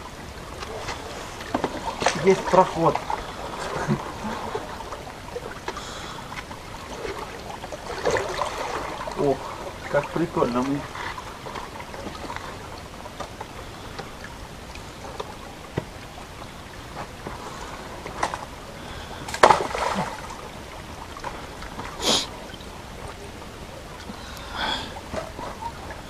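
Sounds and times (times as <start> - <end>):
stream trickling: 0.0 - 26.0.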